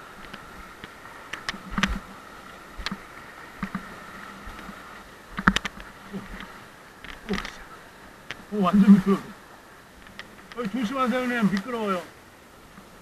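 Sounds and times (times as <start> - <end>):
faint steady whine: 0.0 - 13.0.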